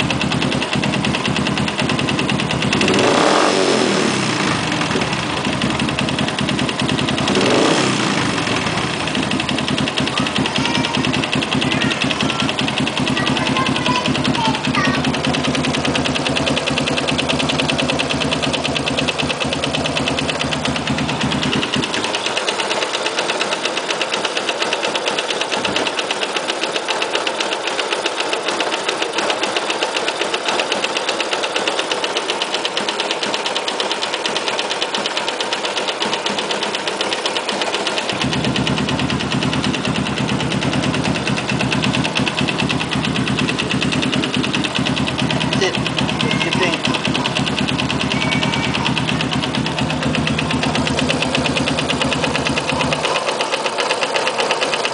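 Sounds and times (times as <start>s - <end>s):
motorcycle engine idling: 0.0s - 54.9s
fast knocking tick: 4.9s - 54.9s.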